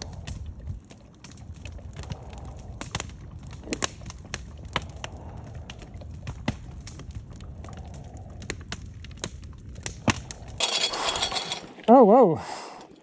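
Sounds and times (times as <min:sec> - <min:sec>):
open fire crackling and popping: 0:00.0 - 0:13.0.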